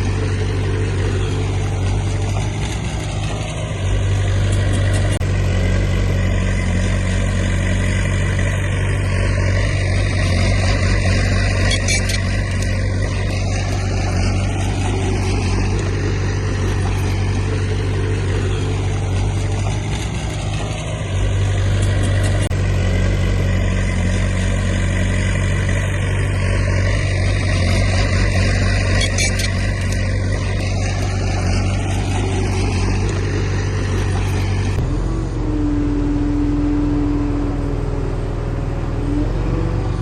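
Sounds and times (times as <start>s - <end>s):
heavy diesel engine running: 0.0s - 40.0s
steady higher whine: 0.0s - 40.0s.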